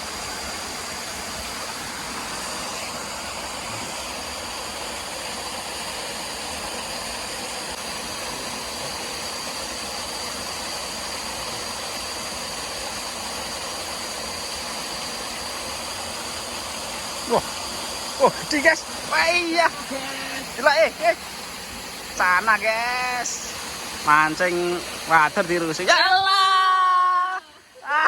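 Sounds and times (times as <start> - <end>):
river water rushing: 0.0 - 28.0
thin high steady tone: 0.0 - 28.0.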